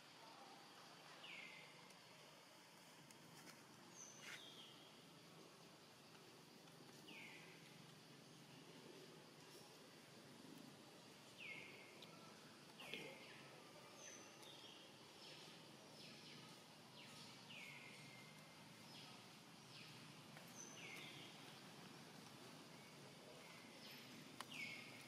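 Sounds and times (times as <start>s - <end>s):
faint outdoor background: 0.0s - 25.0s.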